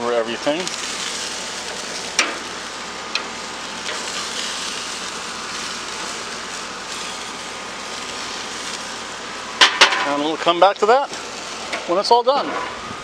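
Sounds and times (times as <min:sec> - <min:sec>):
sausages sizzling on grill: 0:00.0 - 0:13.0.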